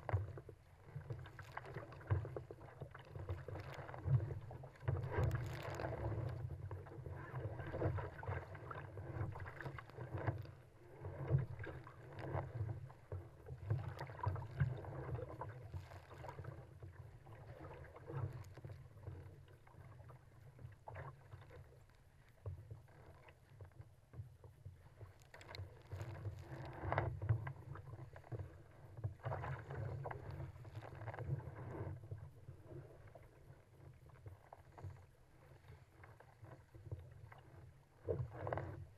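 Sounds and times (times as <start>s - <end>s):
water splashing against kayak hull: 0.0s - 38.9s.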